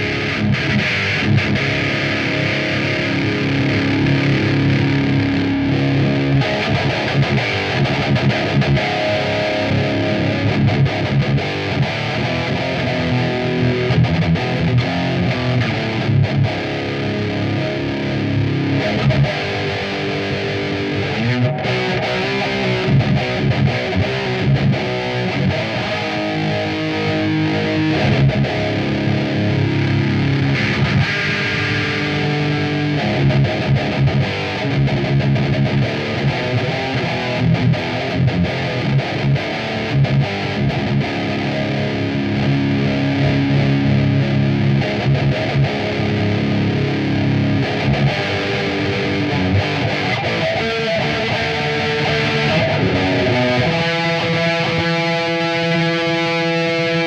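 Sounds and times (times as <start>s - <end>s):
distorted electric guitar chords: 0.0s - 57.0s.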